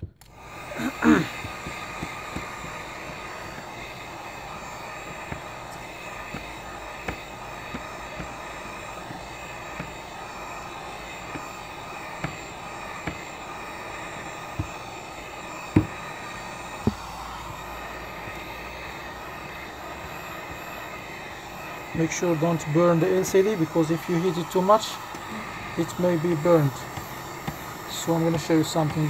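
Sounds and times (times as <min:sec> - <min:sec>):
heat gun blowing: 0:00.0 - 0:29.0.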